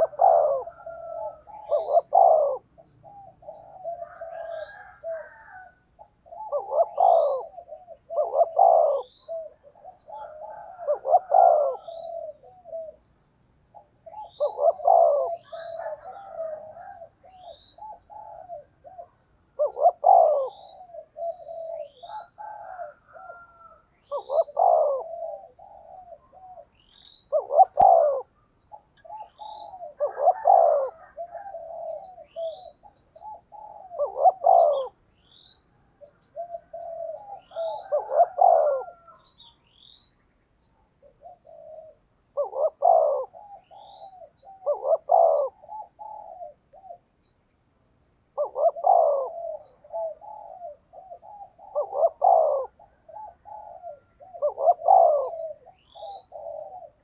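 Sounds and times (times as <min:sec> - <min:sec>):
dove cooing: 0:00.0 - 0:47.5, 0:48.1 - 0:57.0.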